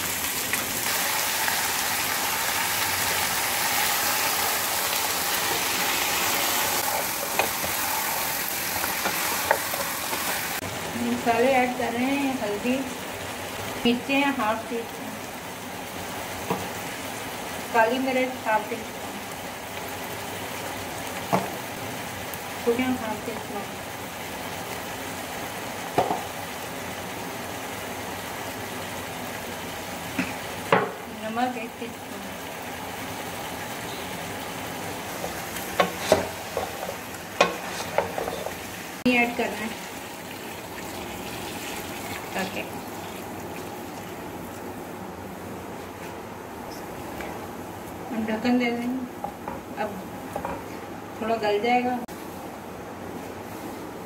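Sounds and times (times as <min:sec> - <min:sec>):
meat sizzling in hot oil: 0:00.0 - 0:44.7.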